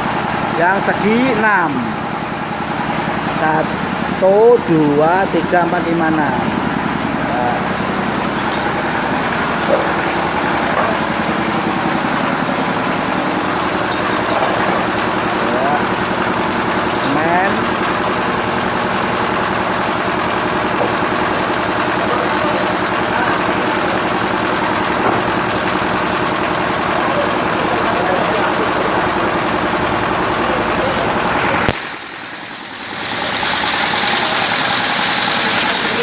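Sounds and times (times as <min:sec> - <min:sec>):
machine motor running: 0:00.0 - 0:36.0.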